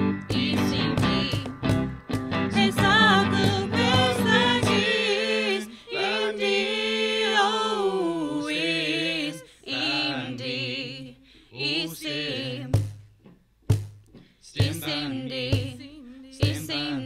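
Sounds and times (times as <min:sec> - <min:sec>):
person singing unaccompanied: 0:00.3 - 0:01.6, 0:02.5 - 0:12.8, 0:14.5 - 0:17.0.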